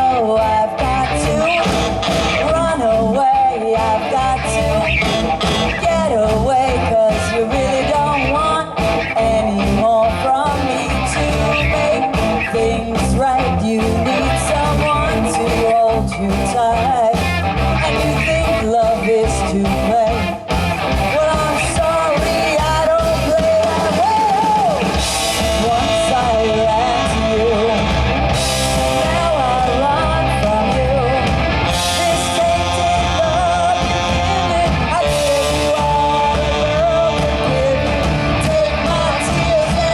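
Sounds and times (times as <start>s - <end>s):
electric guitar lead line: 0.0s - 39.9s
live rock band: 0.0s - 39.9s.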